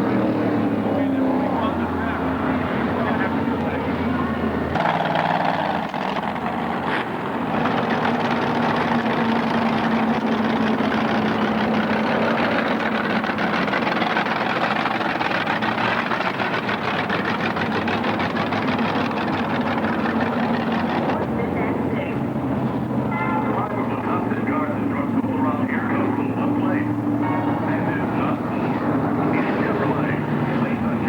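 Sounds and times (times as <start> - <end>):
monster truck engine running: 0.0 - 31.0.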